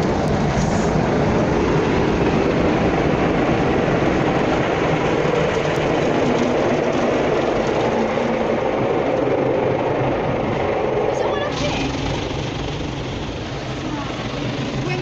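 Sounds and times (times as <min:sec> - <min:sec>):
car wash machinery running: 0:00.0 - 0:15.0.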